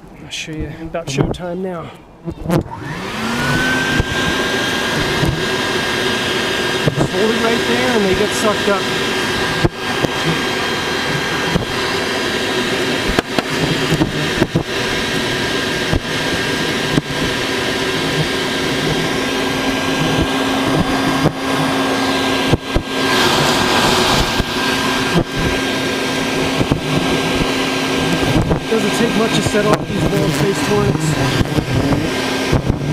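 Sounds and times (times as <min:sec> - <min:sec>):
vacuum running: 0:02.3 - 0:32.9.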